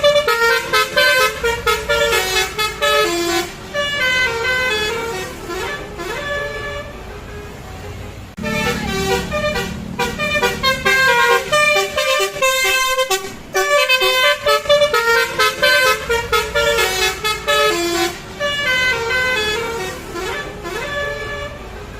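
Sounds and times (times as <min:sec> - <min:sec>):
multi-tone musical horn toots: 0:00.0 - 0:07.4, 0:08.4 - 0:21.9
vehicle engine humming: 0:00.0 - 0:21.9.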